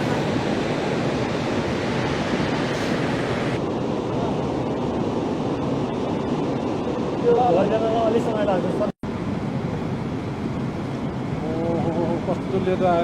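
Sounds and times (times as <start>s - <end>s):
river rushing torrent: 0.0s - 13.0s.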